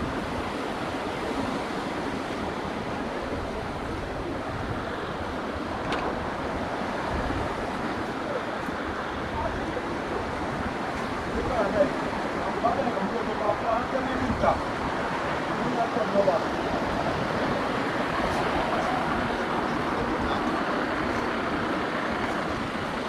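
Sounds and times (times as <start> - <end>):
ocean waves washing onto beach: 0.0 - 23.0
wind buffeting microphone: 0.0 - 23.0.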